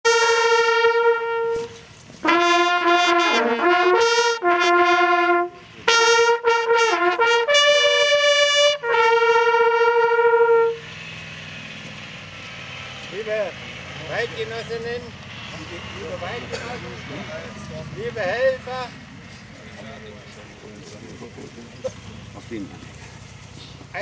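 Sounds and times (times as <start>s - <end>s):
hunting horns playing held notes: 0.0s - 20.5s.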